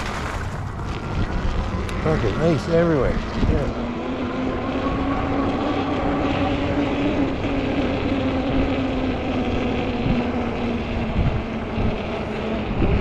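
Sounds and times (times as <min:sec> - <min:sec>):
electric bike drive whine: 0:00.0 - 0:13.0
wind rumble on microphone: 0:00.0 - 0:13.0.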